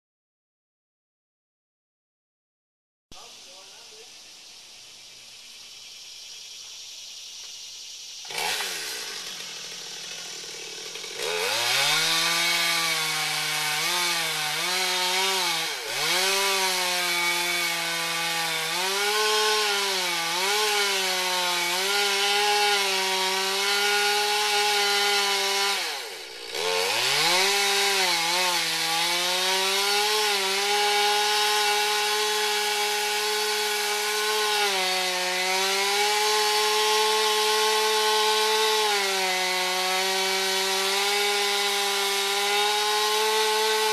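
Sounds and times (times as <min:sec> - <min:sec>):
chainsaw cutting wood: 0:08.2 - 0:43.9.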